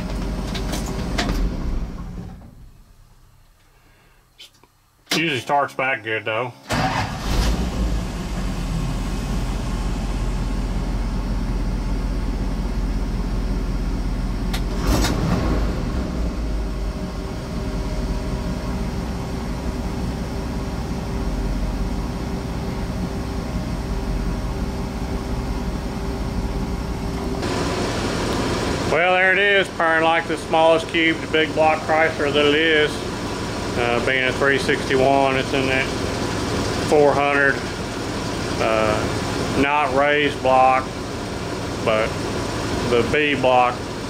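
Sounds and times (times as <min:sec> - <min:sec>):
truck engine idling: 0:06.7 - 0:44.0.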